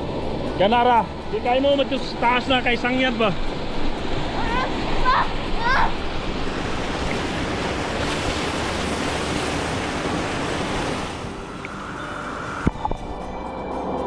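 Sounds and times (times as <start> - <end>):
stream and waterfall rushing: 0.0 - 13.1.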